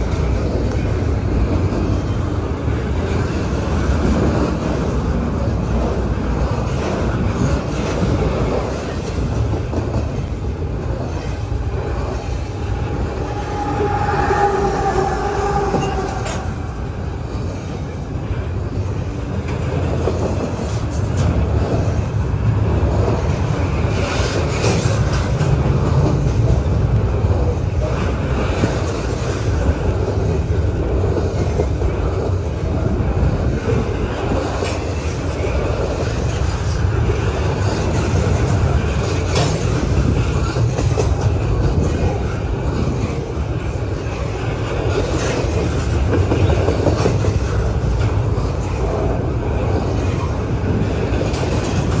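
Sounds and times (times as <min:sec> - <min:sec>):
diesel locomotive whine: 0:00.0 - 0:52.0
freight train wheels rumbling: 0:00.0 - 0:52.0.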